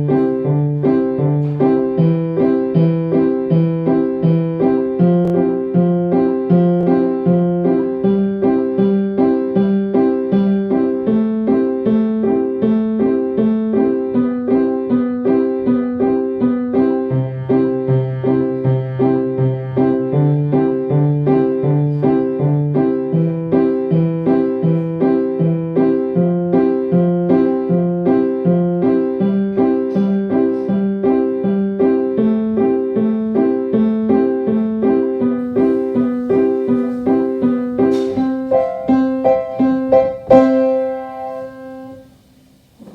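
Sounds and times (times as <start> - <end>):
electric piano melody: 0.0 - 42.9.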